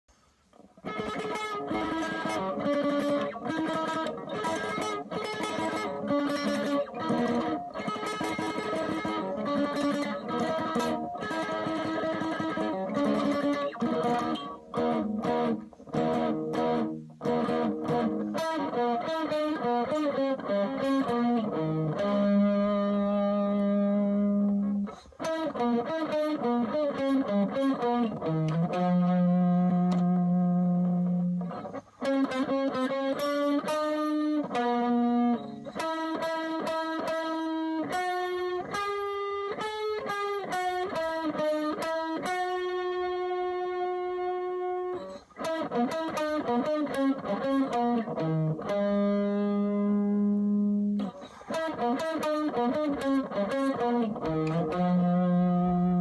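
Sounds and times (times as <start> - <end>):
electric guitar with effects: 0.1 - 56.0.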